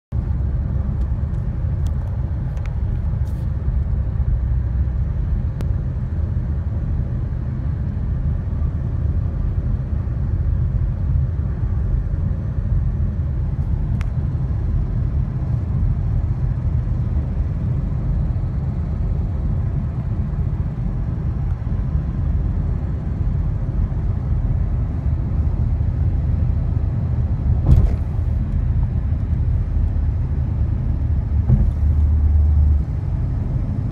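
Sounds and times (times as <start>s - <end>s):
car engine rumbling: 0.1s - 33.9s.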